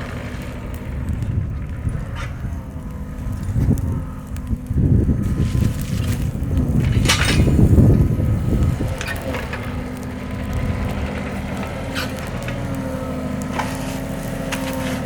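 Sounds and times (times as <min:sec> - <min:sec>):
heavy machine engine running: 0:00.0 - 0:15.0
low crunching rumble: 0:00.0 - 0:15.0
sharp cracks: 0:00.0 - 0:15.0.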